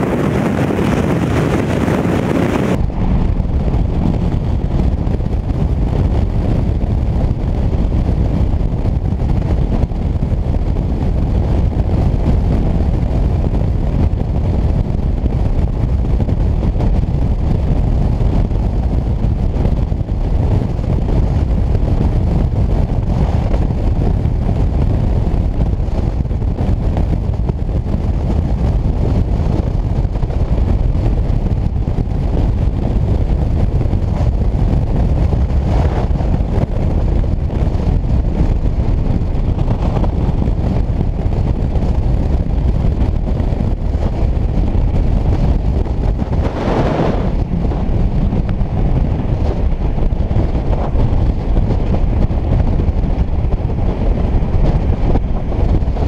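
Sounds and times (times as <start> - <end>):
motorcycle engine and road noise: 0.0 - 56.0
wind rushing on microphone: 0.0 - 56.0.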